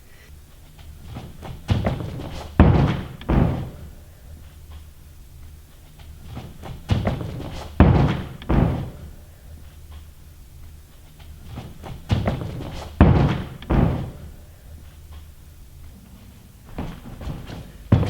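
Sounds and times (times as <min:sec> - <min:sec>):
heavy landing thumps: 0:00.5 - 0:18.0.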